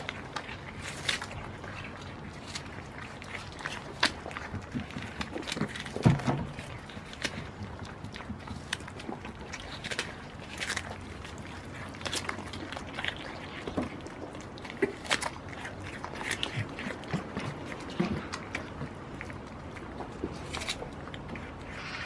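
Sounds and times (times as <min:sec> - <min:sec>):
goats chewing and crunching food: 0:00.0 - 0:22.0.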